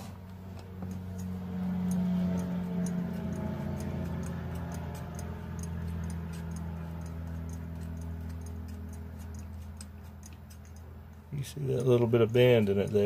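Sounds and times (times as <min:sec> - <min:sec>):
pump ticking: 0:00.0 - 0:13.0.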